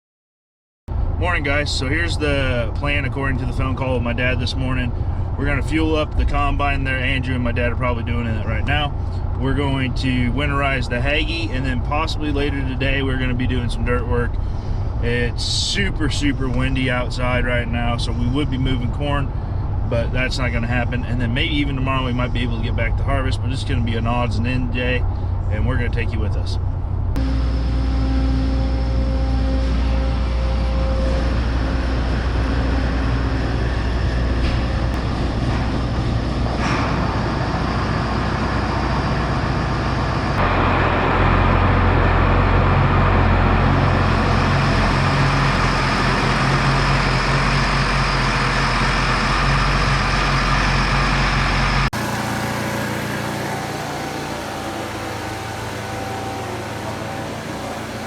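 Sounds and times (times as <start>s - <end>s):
engine running with low drone: 0.9s - 58.0s.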